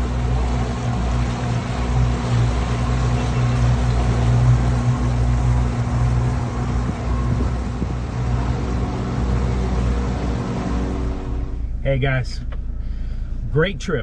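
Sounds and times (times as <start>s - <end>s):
motor engine running steadily: 0.0s - 13.5s.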